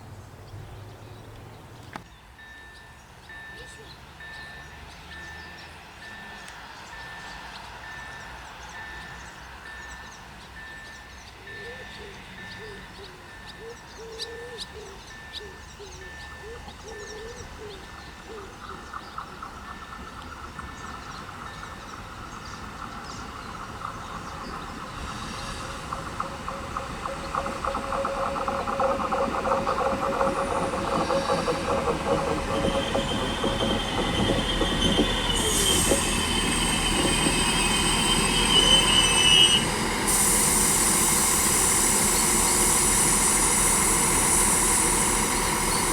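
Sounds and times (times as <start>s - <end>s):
train wheels on rails: 0.3s - 45.9s
train wheels squealing: 2.4s - 45.9s.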